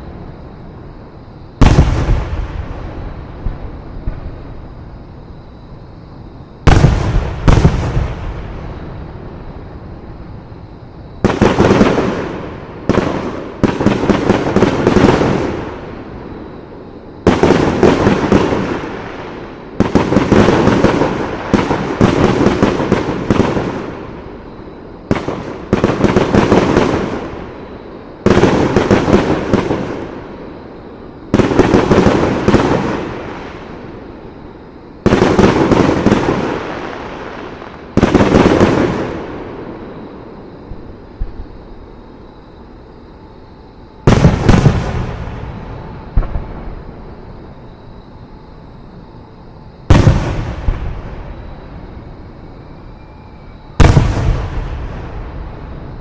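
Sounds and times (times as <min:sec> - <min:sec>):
crackling rolling echo: 0:00.0 - 0:42.2, 0:43.9 - 0:56.0.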